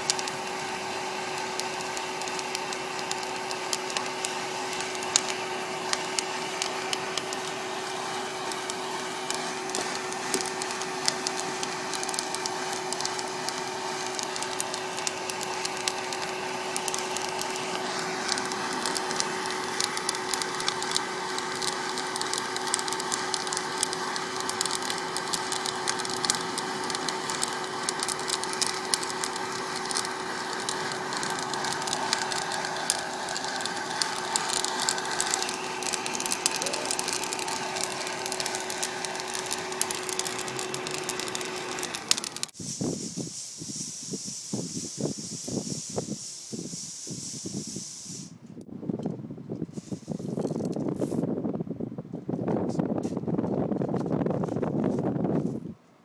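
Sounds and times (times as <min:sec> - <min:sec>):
coffee beans crackling: 0:00.0 - 0:48.3
fan hum: 0:00.0 - 0:56.0.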